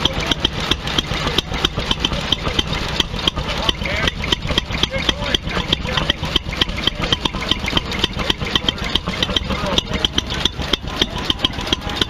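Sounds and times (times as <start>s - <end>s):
engine clicks and pops: 0.0s - 12.0s
low engine rumble: 0.0s - 12.0s.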